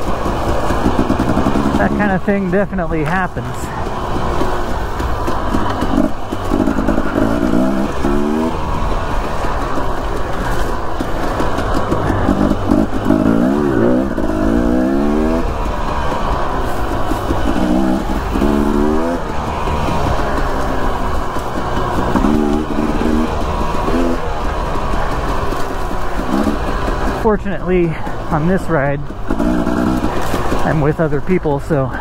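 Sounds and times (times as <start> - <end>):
dirt bike engine revving: 0.0 - 32.0
steady rush of noise: 0.0 - 32.0.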